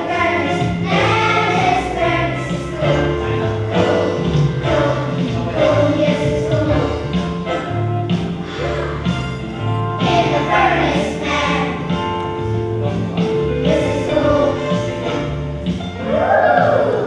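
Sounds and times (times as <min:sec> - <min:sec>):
children's choir singing gospel: 0:00.0 - 0:17.0
instrumental accompaniment with bass: 0:00.0 - 0:17.0.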